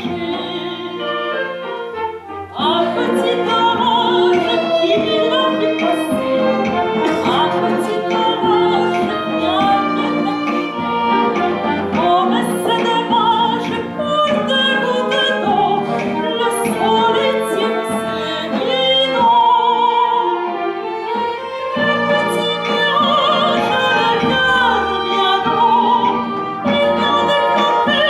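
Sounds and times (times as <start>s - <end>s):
woman singing with vibrato: 0.0s - 1.5s, 2.5s - 20.7s, 21.7s - 28.0s
instrumental accompaniment: 0.0s - 28.0s.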